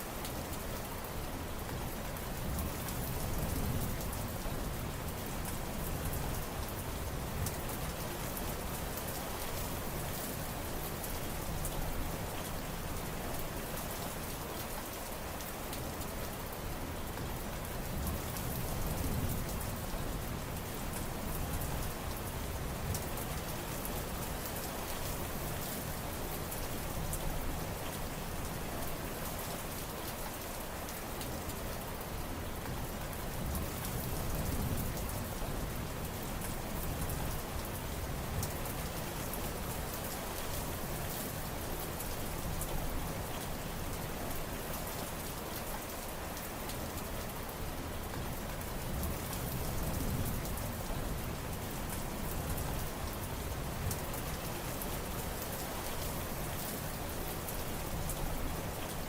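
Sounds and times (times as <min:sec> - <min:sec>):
rain falling on surfaces: 0:00.0 - 0:59.0.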